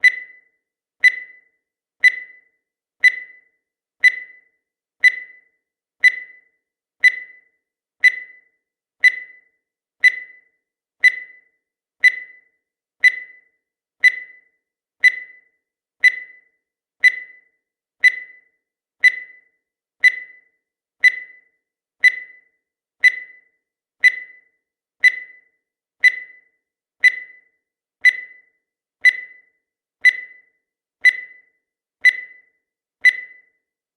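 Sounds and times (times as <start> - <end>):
timer beeping: 0.0 - 33.8.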